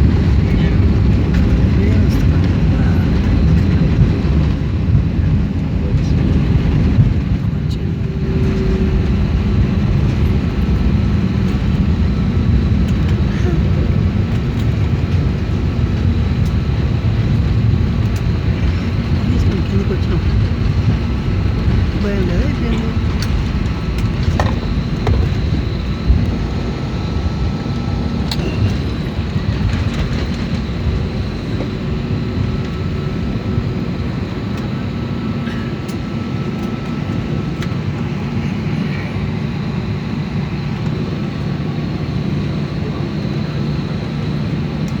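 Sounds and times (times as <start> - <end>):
airliner cabin rumble: 0.0 - 45.0.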